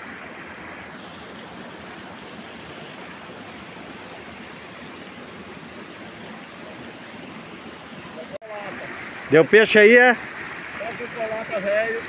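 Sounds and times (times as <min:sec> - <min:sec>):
light rain on a pond: 0:00.0 - 0:12.0.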